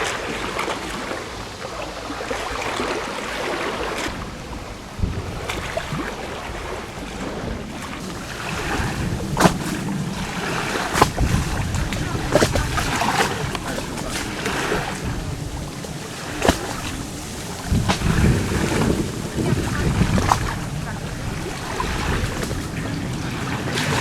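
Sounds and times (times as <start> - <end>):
small waves lapping: 0.0 - 24.0
wind on microphone: 0.0 - 24.0.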